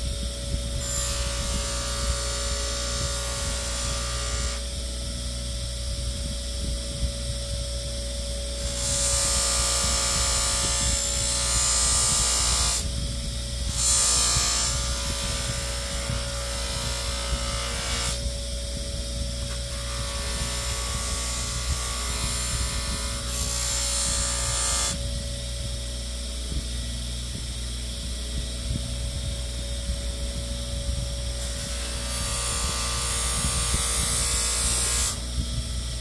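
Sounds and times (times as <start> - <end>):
small power tool running: 0.0 - 5.6, 8.5 - 25.8, 28.9 - 36.0.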